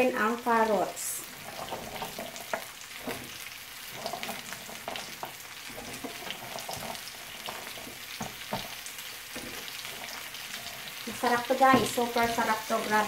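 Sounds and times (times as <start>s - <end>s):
vegetables sizzling in oil: 0.0s - 13.0s
wooden spatula scraping a pan: 0.5s - 13.0s.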